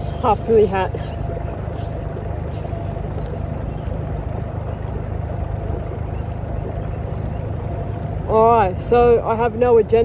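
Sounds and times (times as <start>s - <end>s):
faint steady whine: 0.0s - 10.0s
outboard motor humming: 0.0s - 10.0s.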